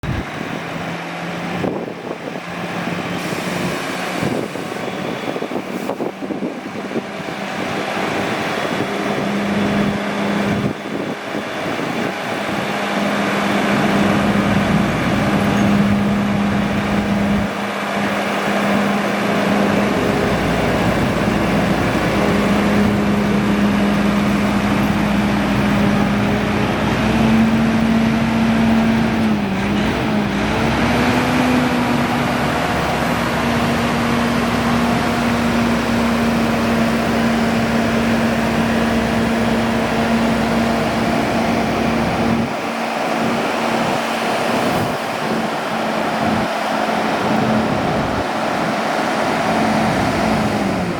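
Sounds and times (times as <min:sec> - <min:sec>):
diesel truck engine idling: 0:00.0 - 0:50.9.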